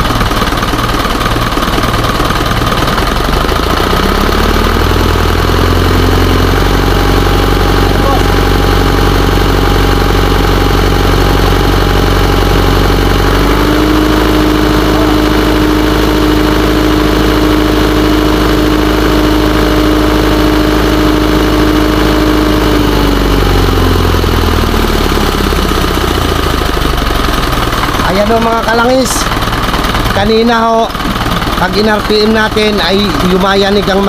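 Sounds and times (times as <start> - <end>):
diesel engine idling and revving: 0.0 - 34.0.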